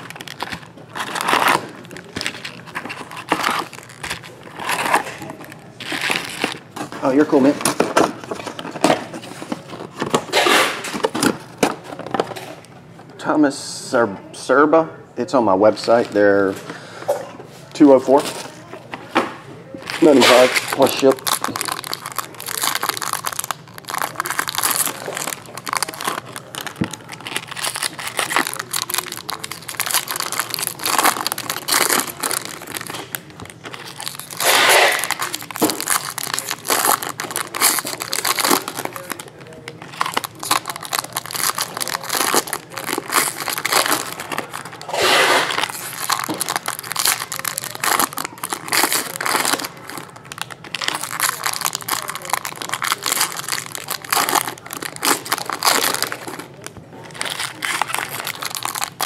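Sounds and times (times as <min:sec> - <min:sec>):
foil wrappers ripping: 0:00.0 - 0:12.2, 0:19.8 - 0:59.0
foil wrappers crinkling: 0:00.0 - 0:12.5, 0:17.7 - 0:59.0.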